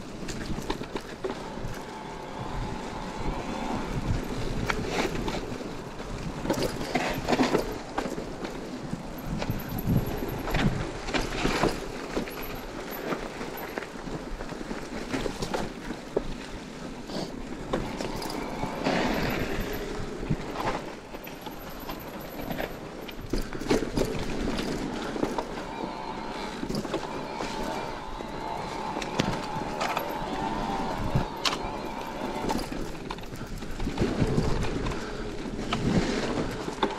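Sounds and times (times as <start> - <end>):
bike knocking and rattling: 0.0 - 36.9
bike tyres rolling over dirt: 0.0 - 36.9.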